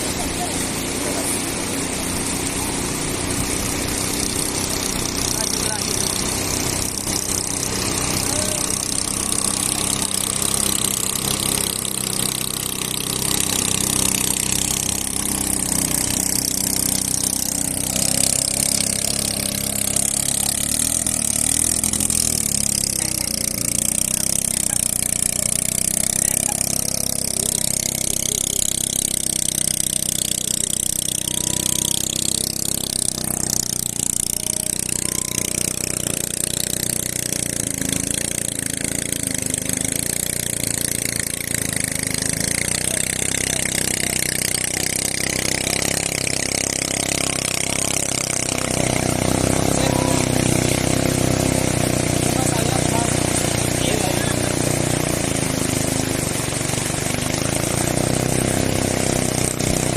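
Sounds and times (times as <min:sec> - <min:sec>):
motor running: 0:00.0 - 0:59.9.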